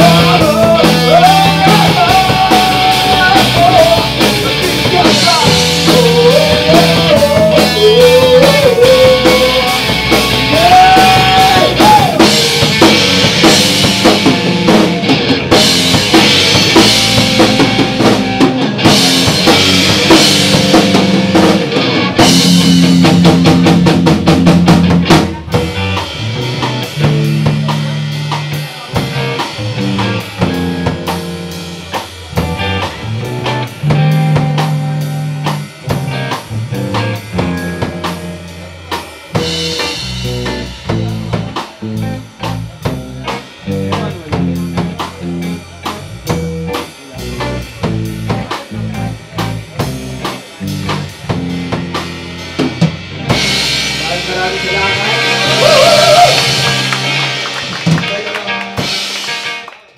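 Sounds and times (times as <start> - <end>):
rapid drum hits: 0.0 - 59.4
live rock band playing: 0.0 - 59.9.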